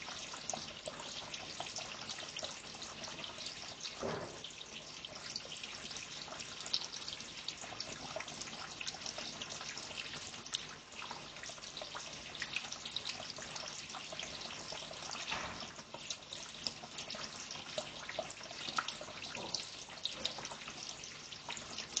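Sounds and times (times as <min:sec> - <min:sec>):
water trickling and dripping: 0:00.0 - 0:22.0.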